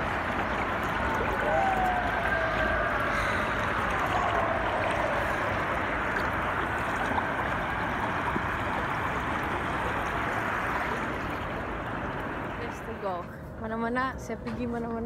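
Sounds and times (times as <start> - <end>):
stream water rushing over stones: 0.0 - 13.2.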